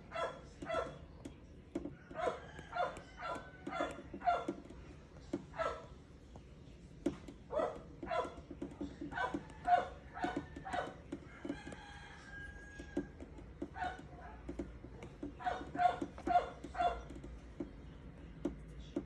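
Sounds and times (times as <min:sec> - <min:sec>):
stylus tapping on screen: 0:00.3 - 0:19.0.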